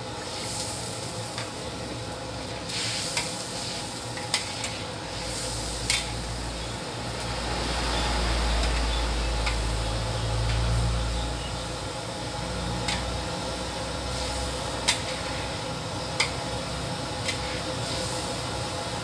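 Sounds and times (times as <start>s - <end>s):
broth hissing in a wok: 0.0s - 19.0s.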